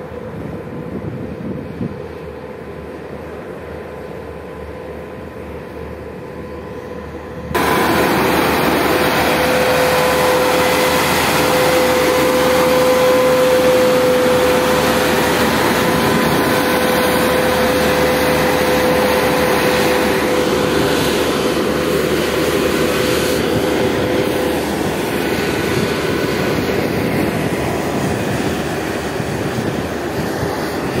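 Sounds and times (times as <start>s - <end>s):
roller compactor diesel engine: 3.4s - 31.0s.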